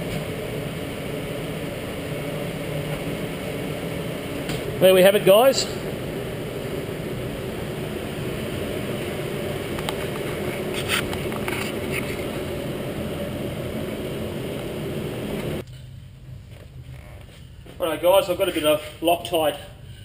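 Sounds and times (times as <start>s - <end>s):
low workshop rumble: 0.0s - 20.0s.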